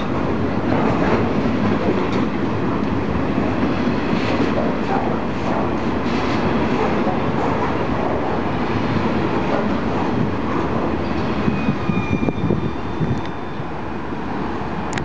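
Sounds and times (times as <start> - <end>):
train knocks: 0.0 - 13.5
freight train rolling on rails: 0.0 - 15.0.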